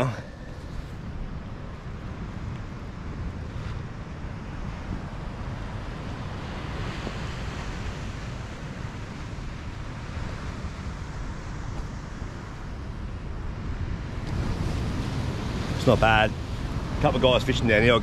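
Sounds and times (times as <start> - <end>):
surf on a rocky shore: 0.0 - 18.0
wind buffeting the microphone: 0.0 - 18.0.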